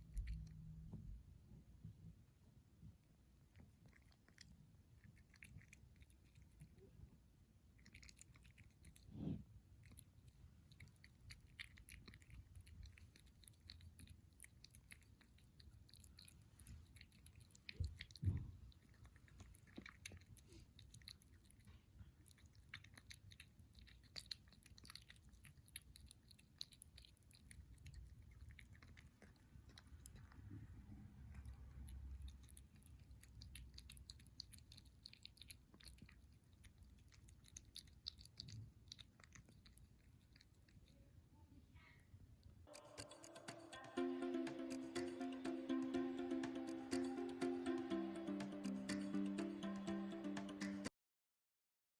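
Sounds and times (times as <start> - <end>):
kitten chewing food: 0.0 - 1.2, 2.8 - 41.3, 42.3 - 45.8.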